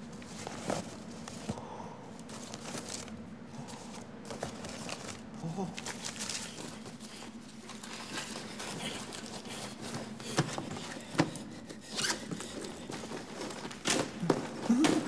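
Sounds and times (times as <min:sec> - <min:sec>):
rustling and handling of bags: 0:00.0 - 0:15.0.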